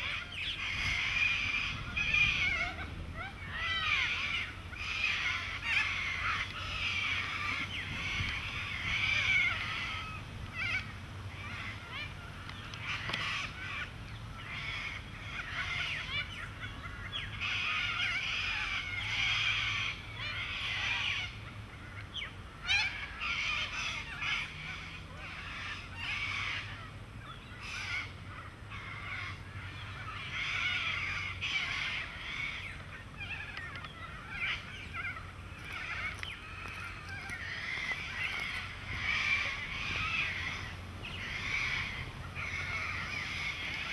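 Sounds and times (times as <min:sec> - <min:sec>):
birds chattering calls: 0:00.0 - 0:43.9.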